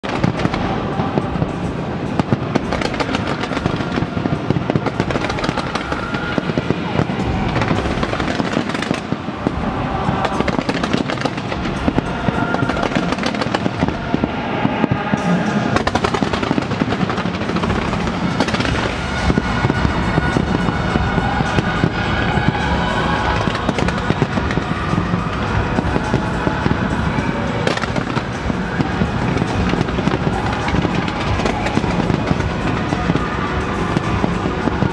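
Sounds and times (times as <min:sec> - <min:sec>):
fireworks bangs and crackles: 0:00.0 - 0:34.9
music: 0:00.0 - 0:34.9.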